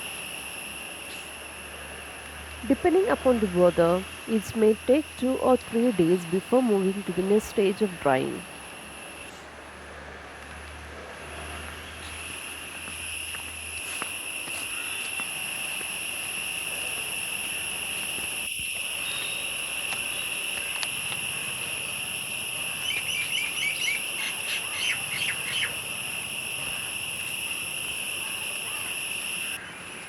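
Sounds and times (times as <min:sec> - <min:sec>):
high-pitched insect drone: 0:00.0 - 0:09.5, 0:10.6 - 0:30.0.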